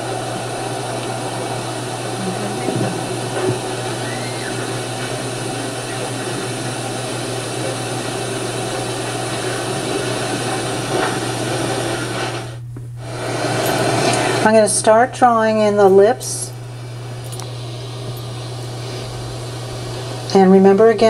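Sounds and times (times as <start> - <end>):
steady hiss: 0.0 - 14.6, 15.8 - 21.0
constant low hum: 0.0 - 21.0.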